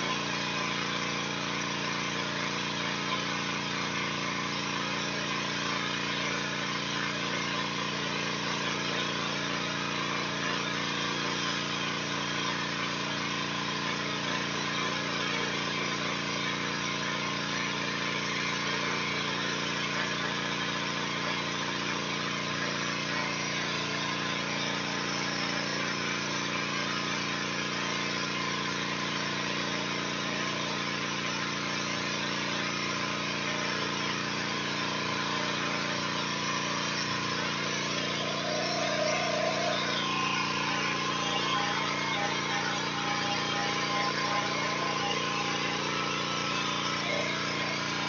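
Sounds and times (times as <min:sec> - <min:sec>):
high-pressure spray hissing on wall: 0:00.0 - 0:48.0
pressure washer engine running: 0:00.0 - 0:48.0.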